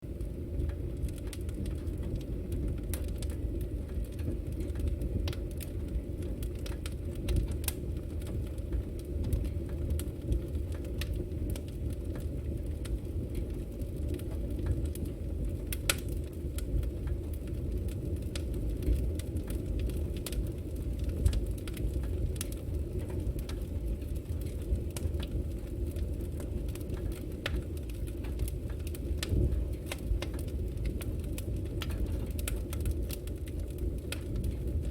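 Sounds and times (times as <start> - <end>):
burning wood crackling and popping: 0.0 - 34.9
campfire flames rumbling: 0.0 - 34.9.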